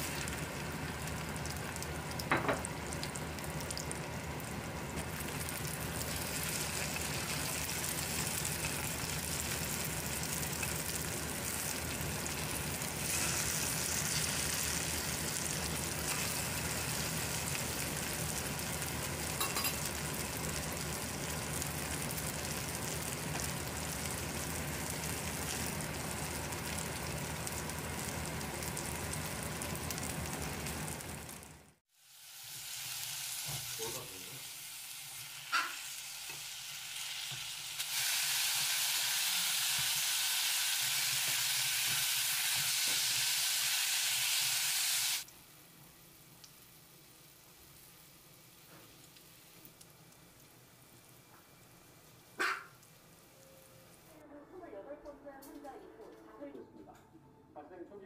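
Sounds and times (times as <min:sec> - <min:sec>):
food sizzling in hot oil: 0:00.0 - 0:53.4.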